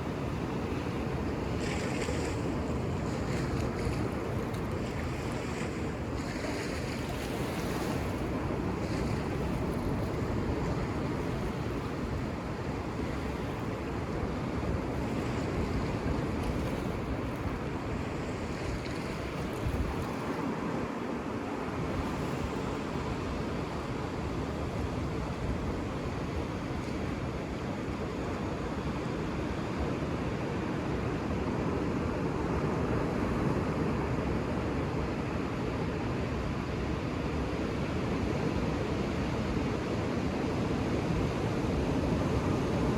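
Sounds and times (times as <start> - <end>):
ocean surf washing onto beach: 0.0 - 42.9.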